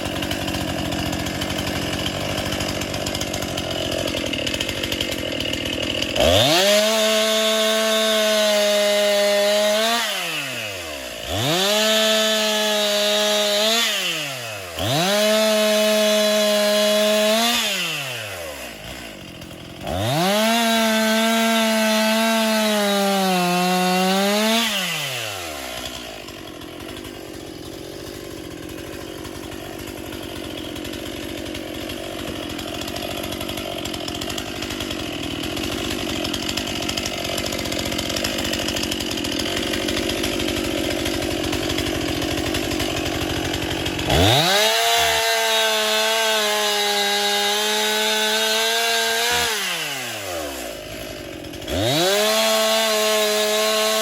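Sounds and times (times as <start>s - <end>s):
chainsaw cutting wood: 0.0s - 54.0s
chainsaw revving: 0.0s - 54.0s.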